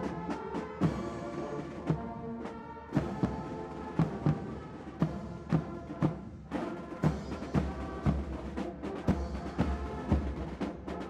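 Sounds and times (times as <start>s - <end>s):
military band playing a march: 0.0s - 11.0s.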